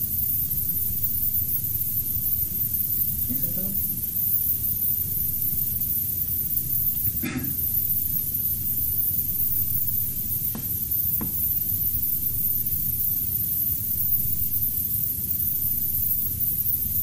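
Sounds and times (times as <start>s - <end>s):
steady hiss and low hum: 0.0s - 17.0s.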